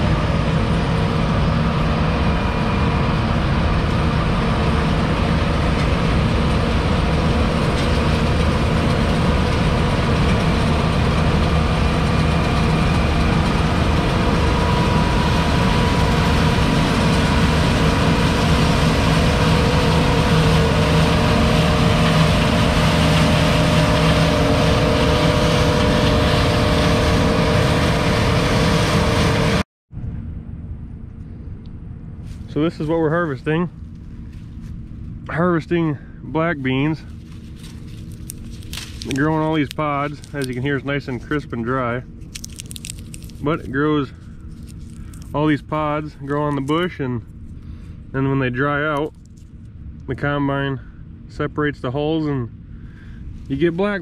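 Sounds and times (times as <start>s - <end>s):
combine harvester engine drone: 0.0s - 54.0s
high steady whine: 0.0s - 54.0s.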